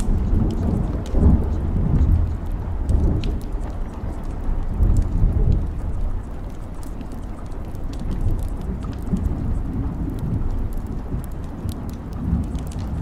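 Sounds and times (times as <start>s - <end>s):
deep rolling thunder: 0.0s - 7.0s, 7.6s - 13.0s
steady rain: 0.0s - 13.0s.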